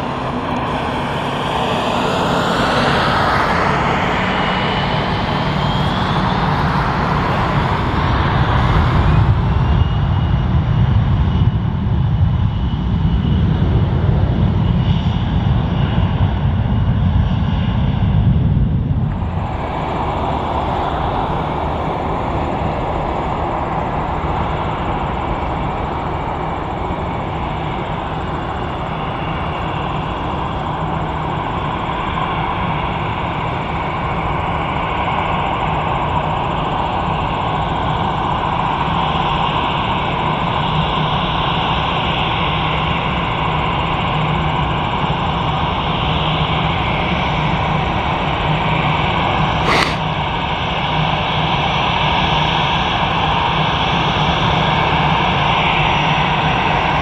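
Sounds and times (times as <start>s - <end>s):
jet engines rumbling with high whine: 0.0s - 57.0s.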